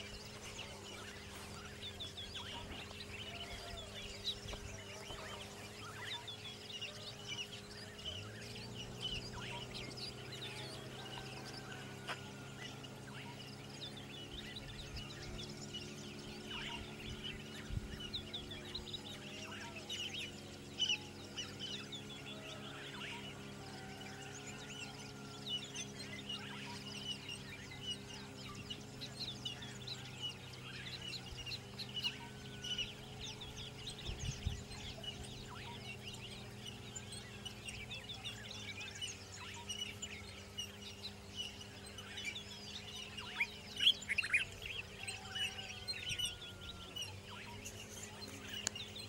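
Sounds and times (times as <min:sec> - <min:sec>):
birds chirping: 0:00.0 - 0:49.0
steady low hum: 0:00.0 - 0:49.0.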